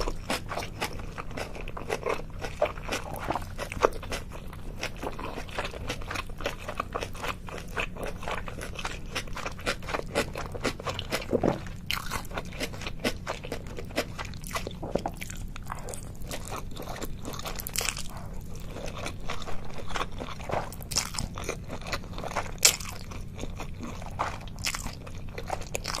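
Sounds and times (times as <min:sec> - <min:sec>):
crunching and chewing of food: 0:00.0 - 0:26.0.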